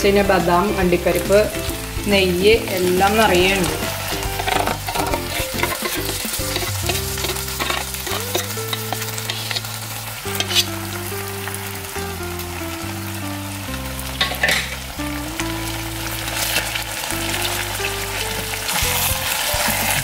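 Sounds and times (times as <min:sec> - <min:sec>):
chicken sizzling in a pan: 0:00.0 - 0:20.0
soft background music: 0:00.0 - 0:20.0.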